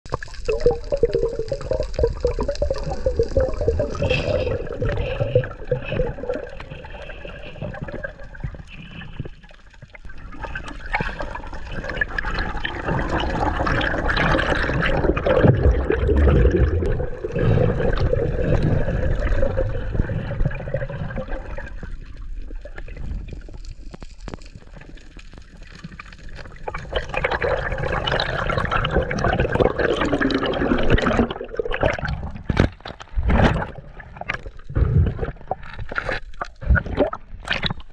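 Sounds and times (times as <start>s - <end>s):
underwater rushing and gurgling water: 0.1s - 37.9s.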